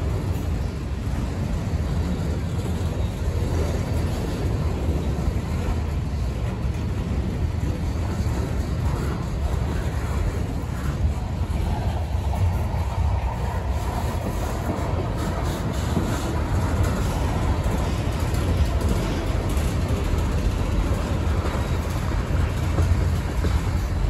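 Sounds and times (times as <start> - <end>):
freight car wheels rumbling on rails: 0.0 - 24.0.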